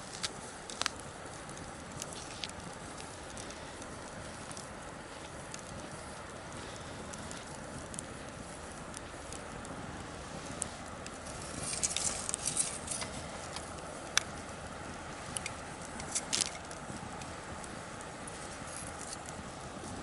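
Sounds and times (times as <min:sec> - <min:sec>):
bonfire crackling: 0:00.0 - 0:20.0
low hiss: 0:00.0 - 0:20.0.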